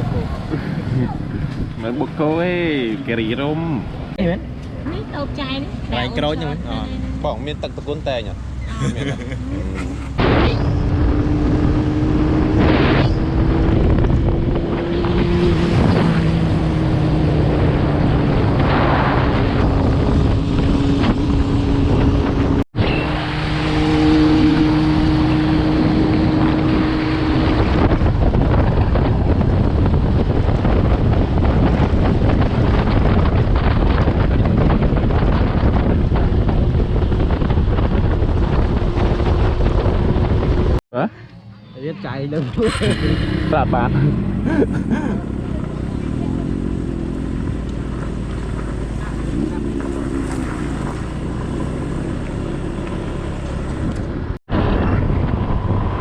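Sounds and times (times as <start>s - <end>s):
wind rumbling on microphone: 0.0s - 40.8s, 42.1s - 56.0s
engine hum: 0.0s - 56.0s.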